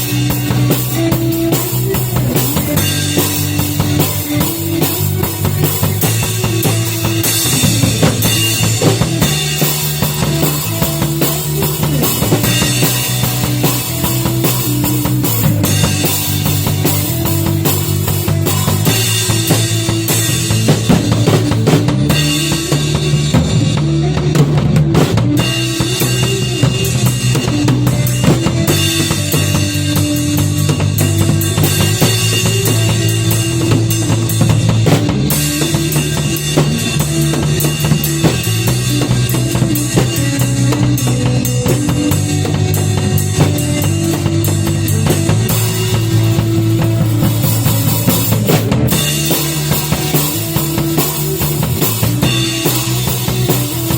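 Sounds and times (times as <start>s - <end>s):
band playing music: 0.0s - 53.9s
bass drum and snare: 0.0s - 53.9s.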